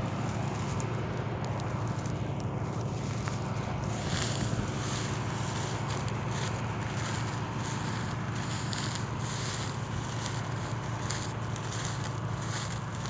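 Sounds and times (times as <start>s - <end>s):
combine harvester engine drone: 0.0s - 13.0s
steady hiss: 0.0s - 13.0s.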